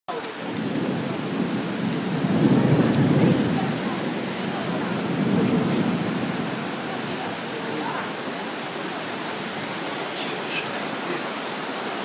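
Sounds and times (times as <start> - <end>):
floodwater rushing: 0.1 - 12.0
rain: 0.1 - 12.0.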